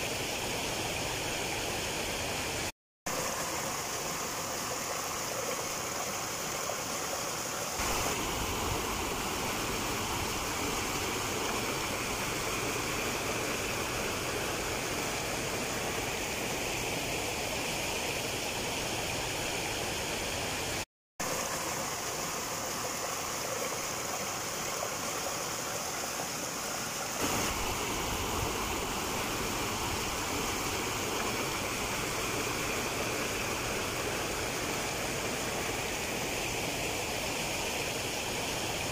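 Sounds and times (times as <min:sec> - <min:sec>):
river flowing over rocks: 0:00.2 - 0:38.9.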